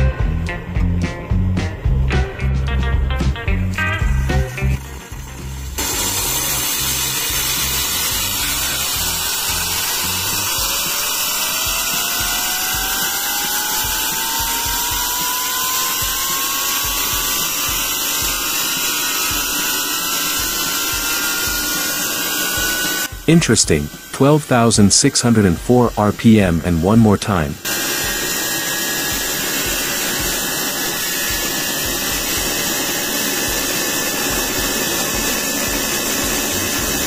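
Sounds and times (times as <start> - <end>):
turbine whine rising in pitch: 0.0 - 37.0
steam hissing: 4.6 - 26.4, 27.6 - 37.0.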